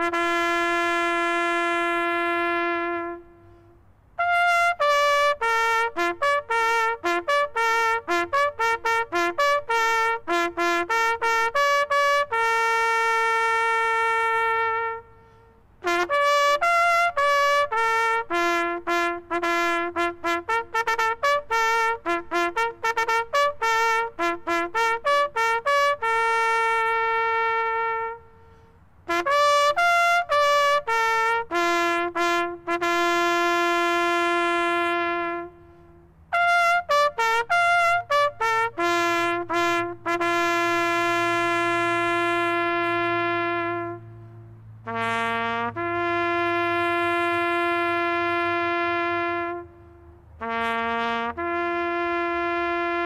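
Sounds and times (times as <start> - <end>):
solo trumpet bugle call: 0.0 - 53.0.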